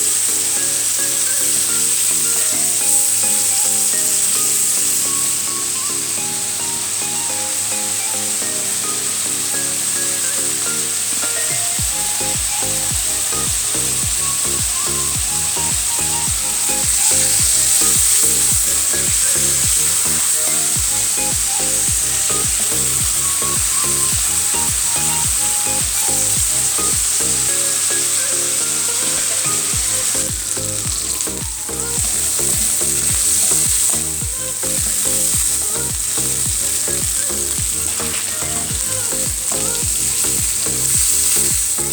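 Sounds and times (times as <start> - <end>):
background music: 0.0 - 41.9
prawns sizzling in hot oil: 0.0 - 41.9.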